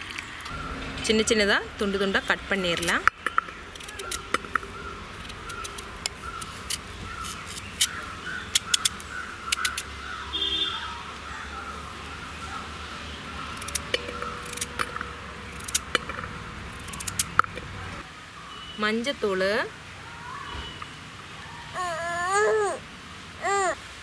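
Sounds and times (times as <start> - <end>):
birds chirping: 0.0 - 23.8.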